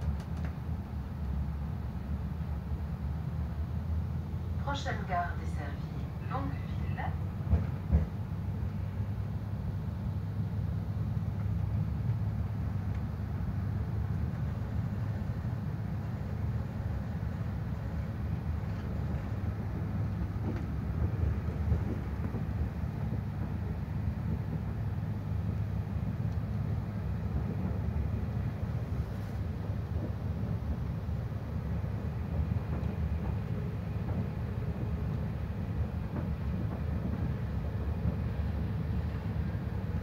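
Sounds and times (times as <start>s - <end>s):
train running rumble inside car: 0.0s - 40.0s.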